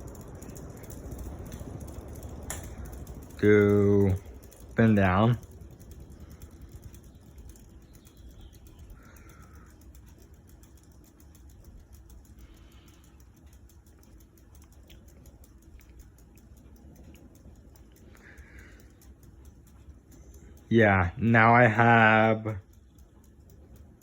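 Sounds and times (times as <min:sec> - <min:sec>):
ceiling fan humming: 0:00.0 - 0:24.0.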